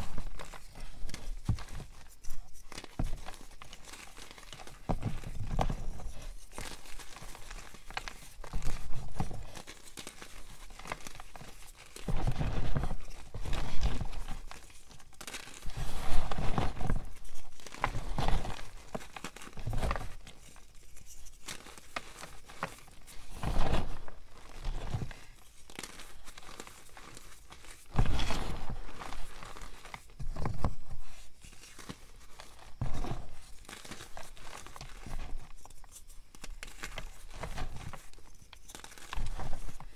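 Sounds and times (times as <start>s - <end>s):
chalk blocks crunching and crumbling: 0.0s - 39.9s
gritty powder rustling: 0.0s - 39.9s.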